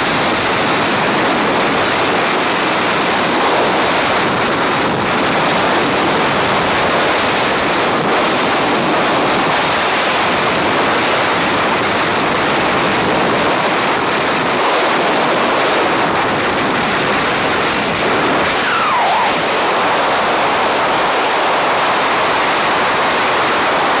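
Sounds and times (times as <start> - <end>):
freefall wind buffeting microphone: 0.0 - 24.0.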